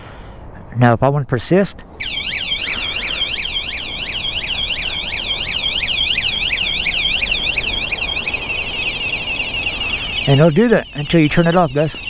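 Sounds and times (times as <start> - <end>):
warbling electronic alarm siren: 2.0 - 12.0.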